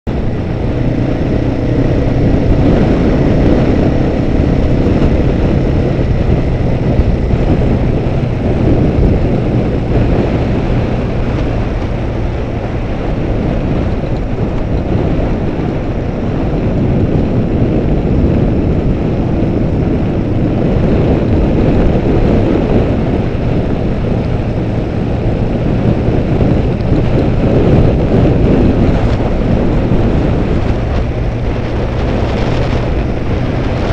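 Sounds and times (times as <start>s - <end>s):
motorcycle engine: 0.0s - 33.9s
wind and road noise: 0.0s - 33.9s.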